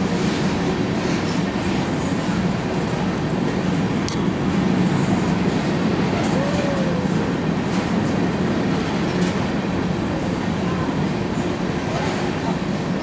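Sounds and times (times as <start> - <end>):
freight train cars rumbling past: 0.0 - 13.0.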